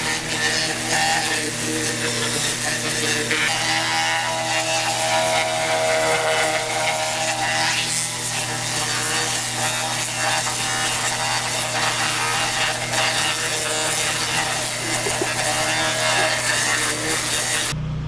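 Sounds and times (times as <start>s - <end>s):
water jet hissing on paving: 0.0s - 3.8s, 4.5s - 17.8s
pressure washer hum: 0.0s - 18.0s.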